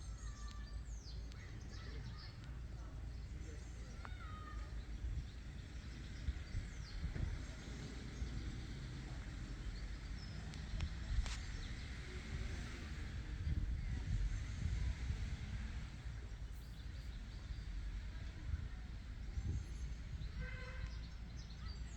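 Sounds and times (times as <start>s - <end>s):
low wind rumble: 0.0s - 21.9s.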